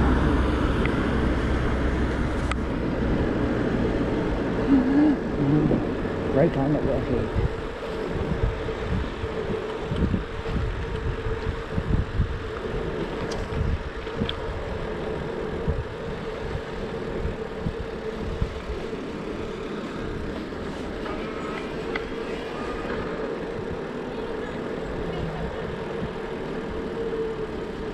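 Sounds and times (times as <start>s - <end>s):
road hiss: 0.0s - 27.9s
steady hum: 0.0s - 27.9s
wind buffeting microphone: 0.0s - 27.9s.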